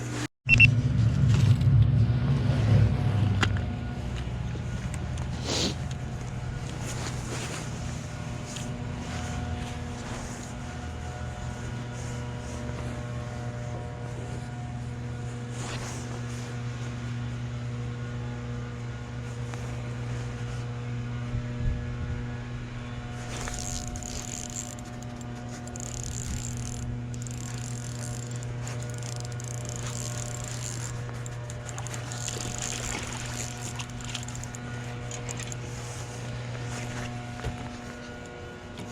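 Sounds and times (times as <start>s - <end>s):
boat motor humming: 0.0s - 38.9s.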